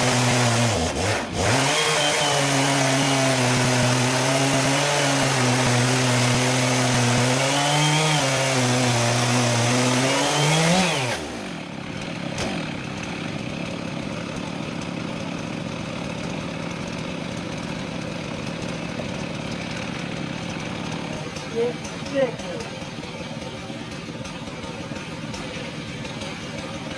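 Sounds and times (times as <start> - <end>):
chainsaw running: 0.0 - 26.9.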